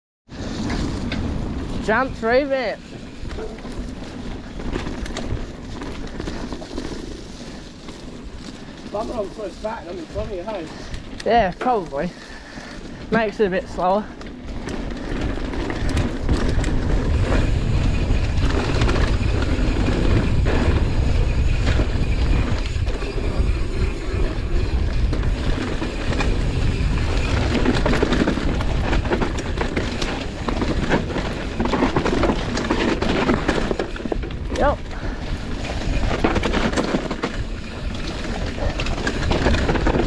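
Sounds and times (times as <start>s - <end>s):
bike frame and chain rattling: 0.3s - 40.0s
bike jolting over rough ground: 0.3s - 40.0s
bike tyres rumbling on dirt: 0.3s - 40.0s.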